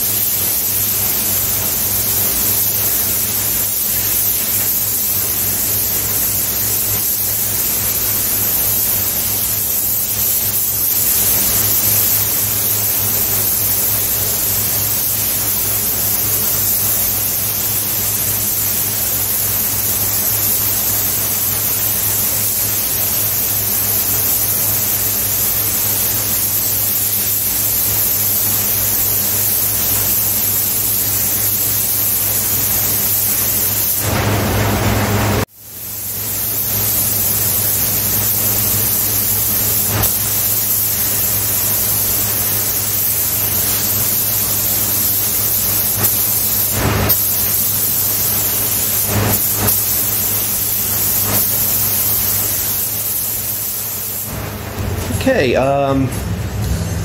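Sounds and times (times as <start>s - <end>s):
spray gun hissing: 0.0s - 54.6s.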